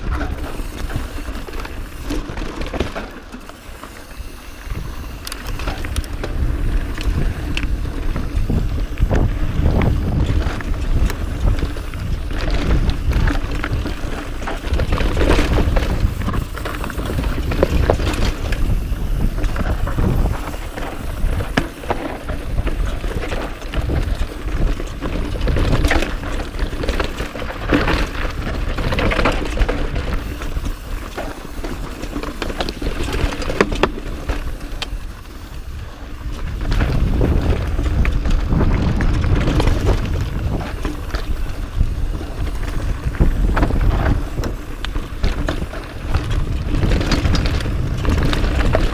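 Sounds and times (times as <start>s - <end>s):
wind rumble on microphone: 0.0s - 3.1s, 4.5s - 48.9s
bike rattling and knocking: 0.0s - 48.9s
tyres crunching over dirt and rock: 0.0s - 48.9s.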